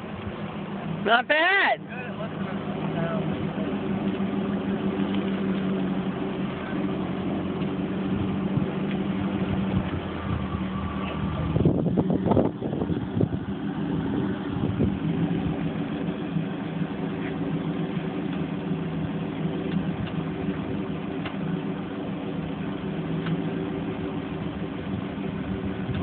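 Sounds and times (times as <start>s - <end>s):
car engine burbling at low revs: 0.0s - 26.0s.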